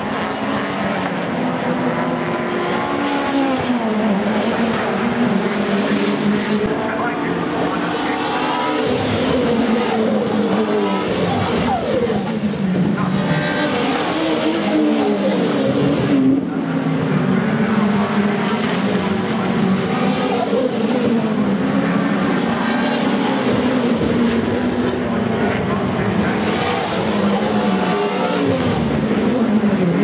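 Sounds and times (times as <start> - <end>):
racing car engines passing: 0.0 - 30.0.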